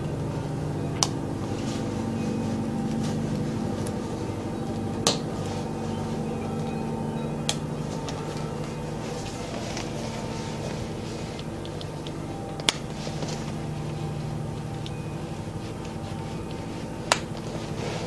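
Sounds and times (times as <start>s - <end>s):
low drone: 0.0s - 18.0s.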